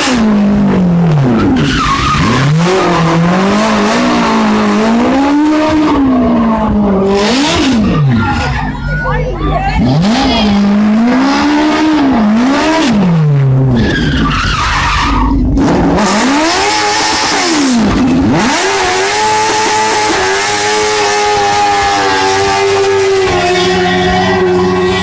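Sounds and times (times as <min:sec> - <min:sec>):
motorcycle engine revving: 0:00.0 - 0:08.6, 0:09.7 - 0:13.8, 0:15.3 - 0:25.0
tyres screeching: 0:01.2 - 0:12.6, 0:13.6 - 0:25.0.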